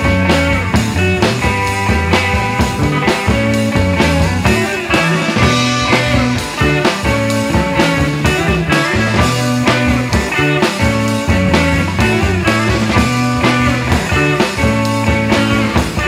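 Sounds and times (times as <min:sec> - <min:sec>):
bass guitar: 0:00.0 - 0:16.0
drum kit: 0:00.0 - 0:16.0
electric guitar: 0:00.0 - 0:16.0
psychedelic rock music: 0:00.0 - 0:16.0.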